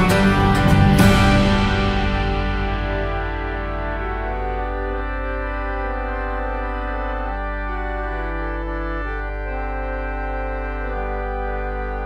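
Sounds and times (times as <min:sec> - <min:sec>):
instrumental music with held chords: 0:00.0 - 0:12.0.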